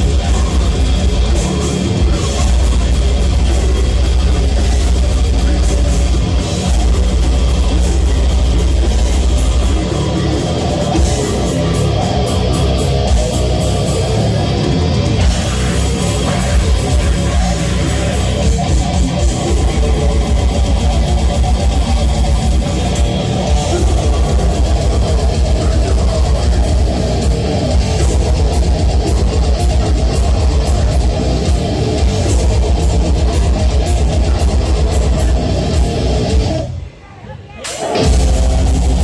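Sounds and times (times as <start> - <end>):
heavy metal band playing live: 0.0 - 39.0.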